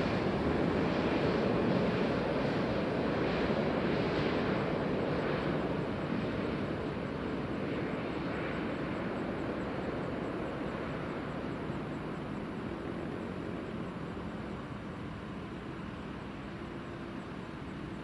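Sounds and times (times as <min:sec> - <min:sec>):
distant jet engine roar: 0:00.0 - 0:18.0.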